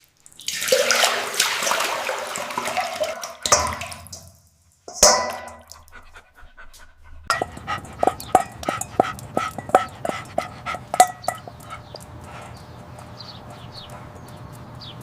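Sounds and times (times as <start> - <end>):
water running and splashing: 0.0 - 14.1.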